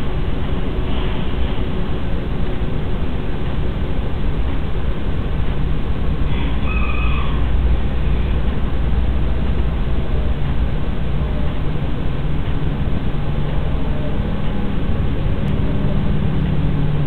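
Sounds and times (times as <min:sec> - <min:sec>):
low hum: 0:00.0 - 0:17.0
steady microphone hiss: 0:00.0 - 0:17.0.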